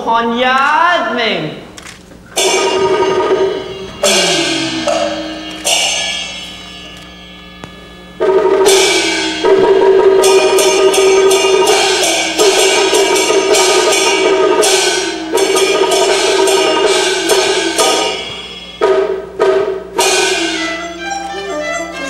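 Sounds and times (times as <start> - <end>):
cymbals crashing: 2.2 - 22.0
gongs ringing: 2.2 - 22.0.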